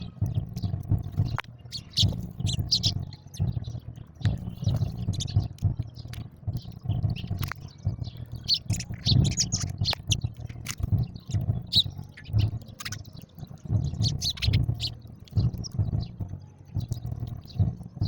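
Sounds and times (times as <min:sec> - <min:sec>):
low dull thumps: 0:00.0 - 0:18.0
sparrows chirping: 0:00.0 - 0:18.0
sharp clicks: 0:00.1 - 0:18.0.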